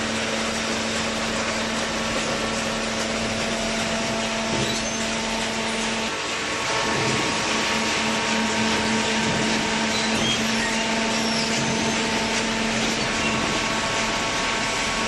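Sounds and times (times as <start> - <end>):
baler machine drone: 0.5 - 15.0.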